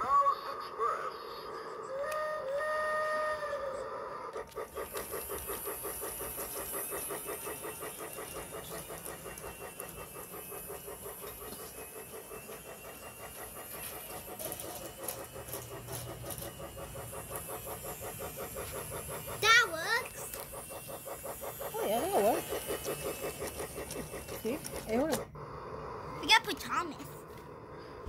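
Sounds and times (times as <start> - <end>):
toy train clattering on track: 1.9 - 28.0.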